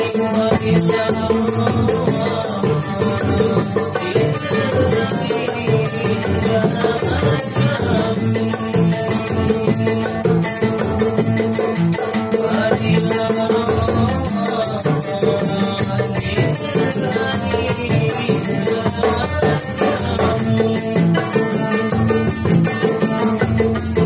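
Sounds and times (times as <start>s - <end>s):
hand drums: 0.0s - 24.0s
man singing: 0.0s - 24.0s
strummed acoustic guitar: 0.0s - 24.0s.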